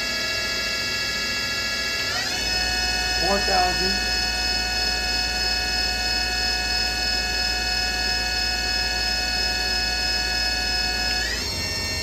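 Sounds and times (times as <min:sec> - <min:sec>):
machine spindle whine: 0:00.0 - 0:12.0.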